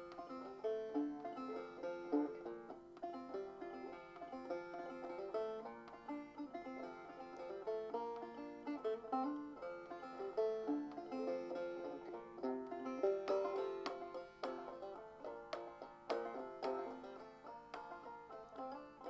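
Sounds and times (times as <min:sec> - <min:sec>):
solo banjo melody: 0:00.0 - 0:19.0.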